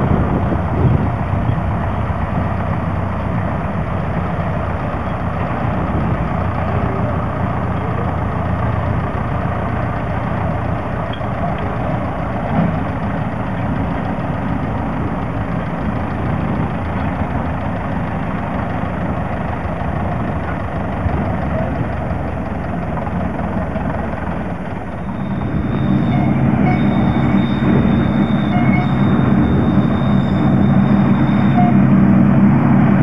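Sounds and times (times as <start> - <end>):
heavy engine idling: 0.0 - 33.0.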